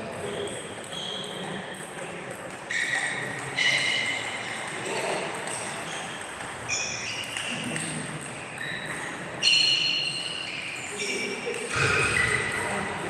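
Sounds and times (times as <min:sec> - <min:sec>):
noisy background: 0:00.0 - 0:13.0.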